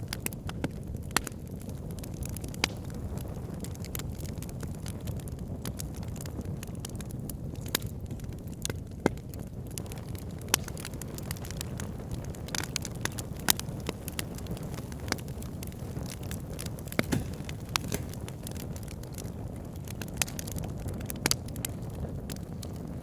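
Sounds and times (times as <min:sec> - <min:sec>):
fire flames rumbling: 0:00.0 - 0:23.0
wood fire crackling and popping: 0:00.0 - 0:23.0.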